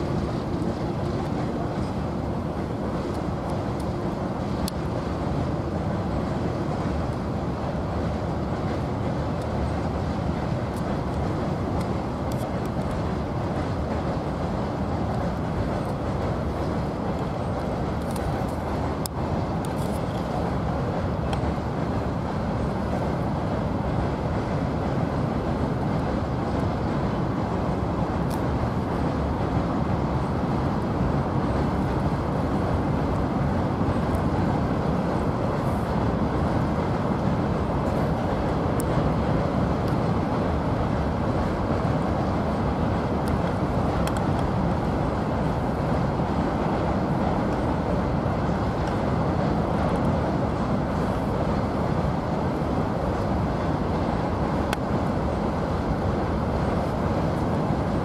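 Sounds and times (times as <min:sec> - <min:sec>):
freight train rumbling over bridge: 0:00.0 - 0:58.0.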